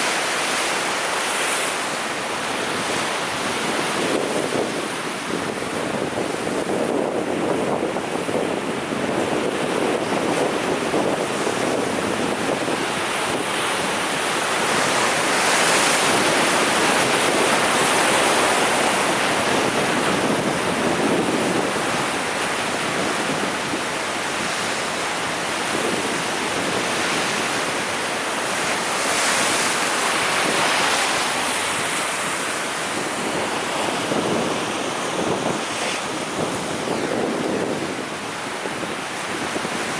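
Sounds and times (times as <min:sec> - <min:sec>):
sea waves breaking on shore: 0:00.0 - 0:39.9
wind buffeting microphone: 0:02.5 - 0:39.9.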